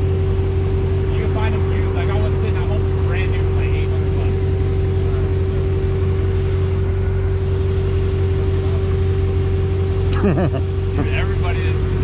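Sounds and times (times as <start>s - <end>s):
constant humming tone: 0.0s - 12.0s
low mechanical drone: 0.0s - 12.0s.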